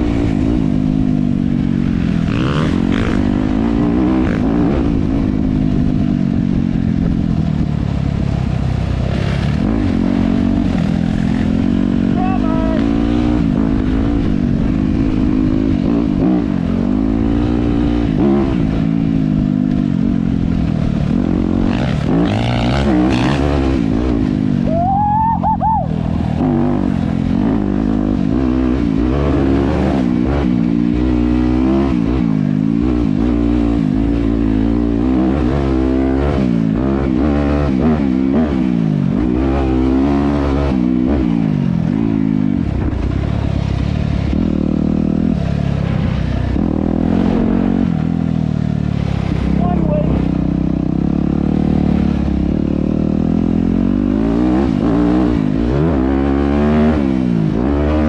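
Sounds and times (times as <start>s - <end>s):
dirt bike engine revving: 0.0s - 7.7s, 8.9s - 58.0s.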